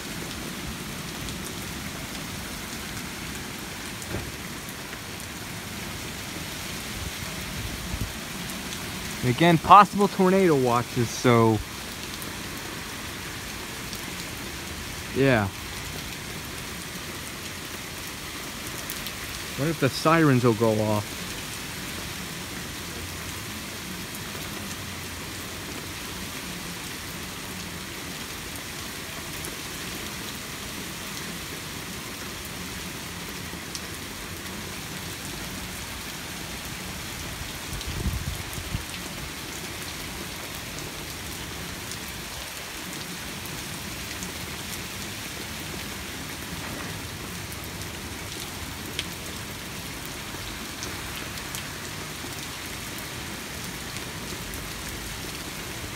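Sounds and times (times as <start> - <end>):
steady rain hissing: 0.0 - 55.9.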